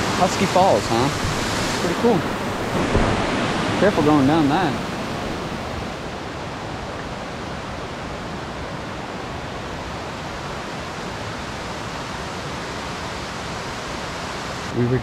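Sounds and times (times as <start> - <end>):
fast river rushing: 0.0 - 15.0.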